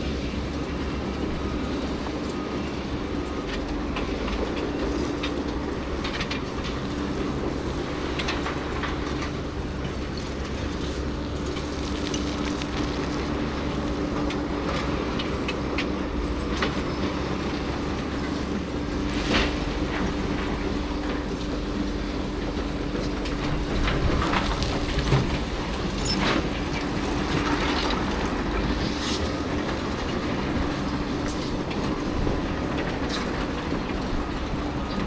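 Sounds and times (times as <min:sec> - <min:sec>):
diesel machinery humming: 0:00.0 - 0:35.0.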